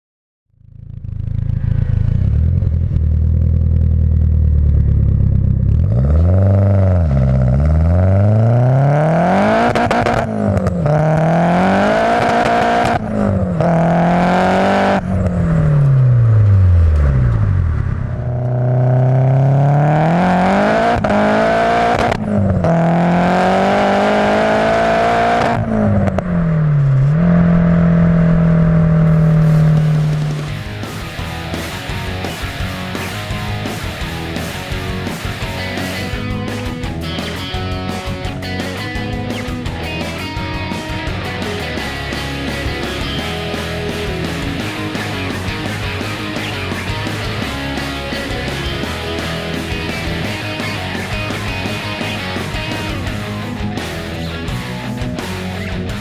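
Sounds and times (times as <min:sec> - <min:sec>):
car engine idling and revving: 0:00.5 - 0:56.0.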